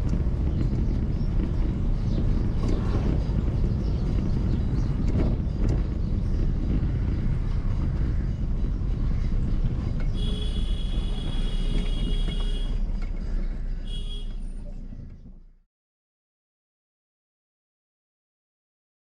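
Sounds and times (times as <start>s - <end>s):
car road and engine rumble: 0.0s - 15.6s.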